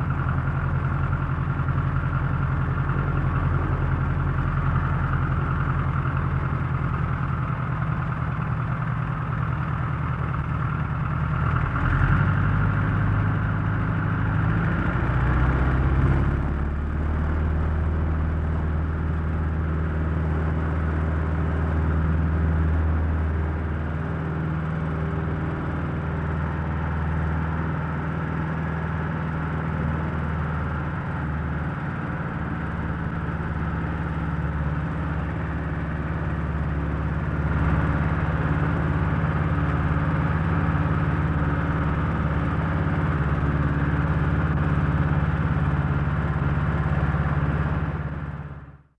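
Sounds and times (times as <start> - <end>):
propeller airplane engine idling: 0.0 - 48.9.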